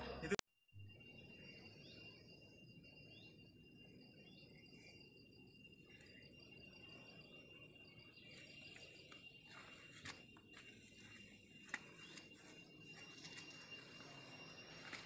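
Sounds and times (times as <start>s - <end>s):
thin steady high tone: 0.0s - 15.0s.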